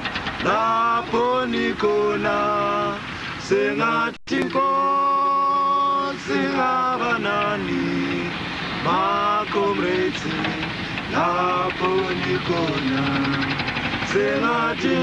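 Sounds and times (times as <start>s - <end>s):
men singing in harmony: 0.3s - 15.0s.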